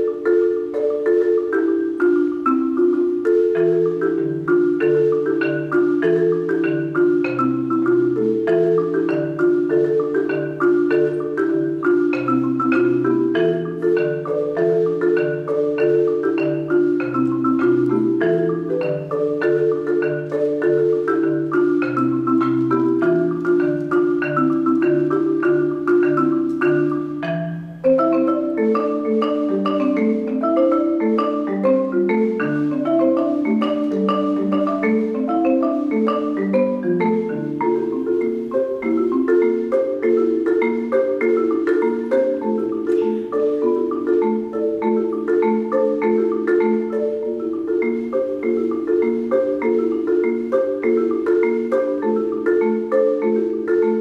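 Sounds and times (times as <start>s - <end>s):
marimba playing fast figures: 0.0s - 54.0s.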